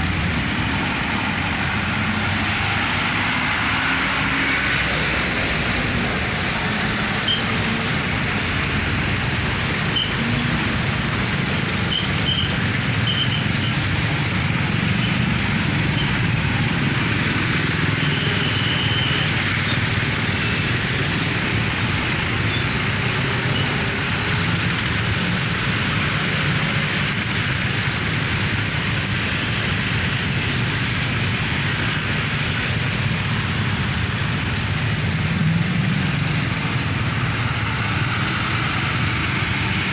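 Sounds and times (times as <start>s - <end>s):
road traffic passing: 0.0s - 39.9s.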